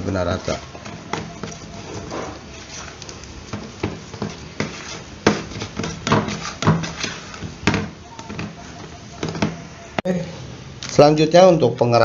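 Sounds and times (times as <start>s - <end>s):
plastic spoon stirring dough: 0.0s - 9.6s.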